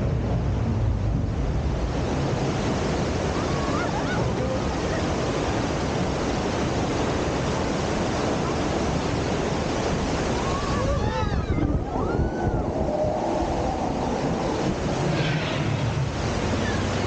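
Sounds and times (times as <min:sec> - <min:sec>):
churning water rushing: 0:00.0 - 0:17.0.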